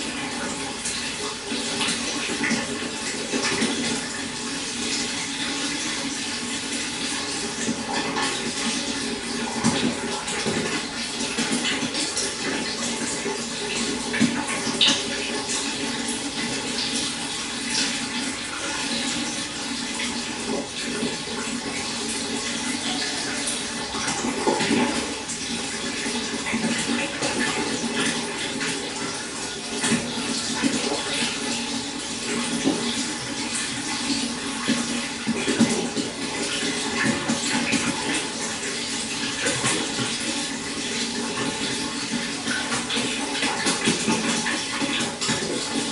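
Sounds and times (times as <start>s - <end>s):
pond water trickling and splashing: 0.0s - 45.9s.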